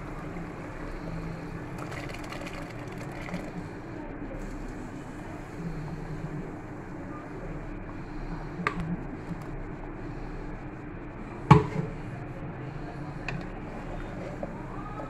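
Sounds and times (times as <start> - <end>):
cooking hum and hiss: 0.0 - 15.0.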